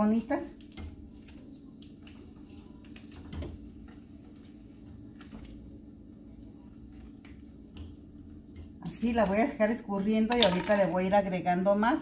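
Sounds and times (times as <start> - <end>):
faint kitchen hum: 0.0 - 12.0.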